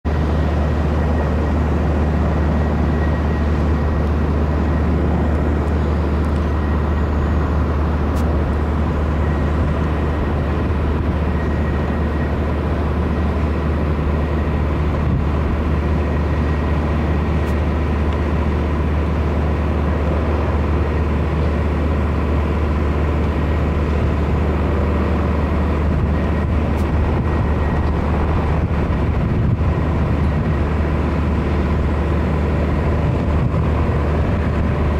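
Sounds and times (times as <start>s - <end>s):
helicopter rotor drone: 0.0s - 34.9s
thin steady whine: 0.0s - 34.9s.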